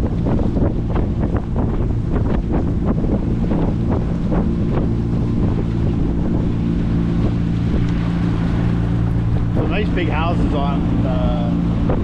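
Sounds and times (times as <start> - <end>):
outboard motor running: 0.0 - 12.0
water slapping hull: 0.0 - 12.0
wind buffeting microphone: 0.0 - 12.0.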